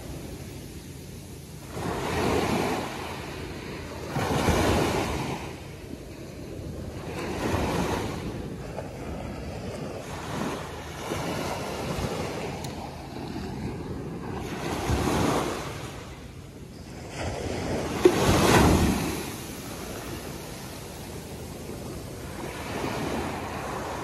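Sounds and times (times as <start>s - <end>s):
waves washing up a beach: 0.0s - 24.0s
wind buffeting microphone: 0.0s - 24.0s.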